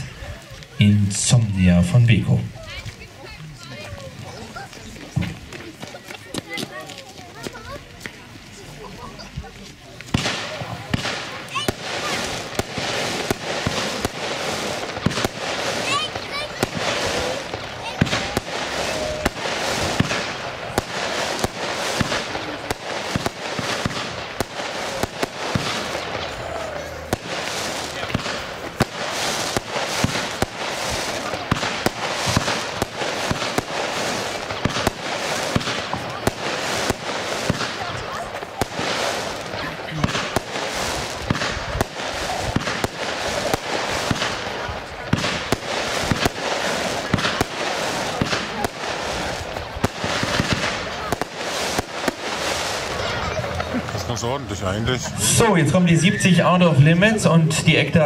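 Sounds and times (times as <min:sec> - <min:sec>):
firework bangs: 0:00.0 - 0:58.0
firework crackle and hiss: 0:00.0 - 0:58.0.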